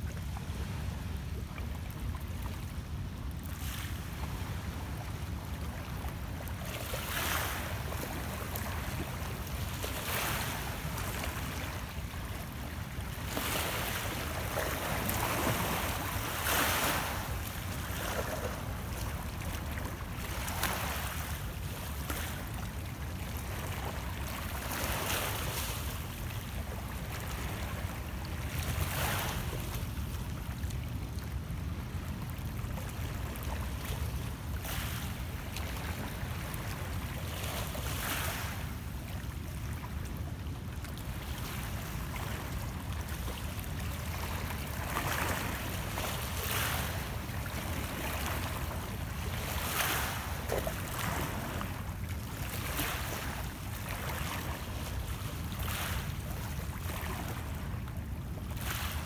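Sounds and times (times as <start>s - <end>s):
waves lapping against rocks: 0.2s - 59.0s.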